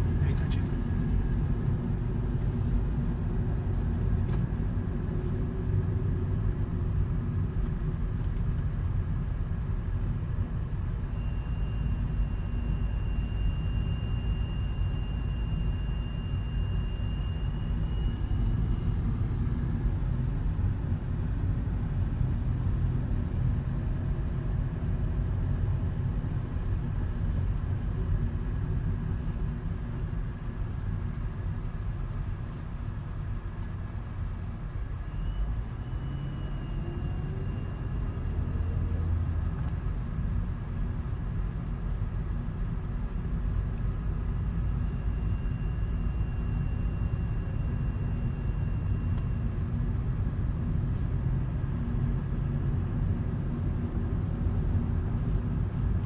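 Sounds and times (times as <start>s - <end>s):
car engine rumbling: 0.0s - 56.0s.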